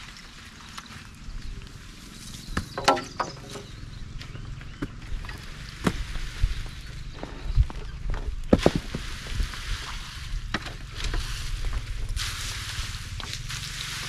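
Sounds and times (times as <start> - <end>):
dry plants rustling and crackling: 0.0 - 14.0
low rumble: 1.0 - 14.0.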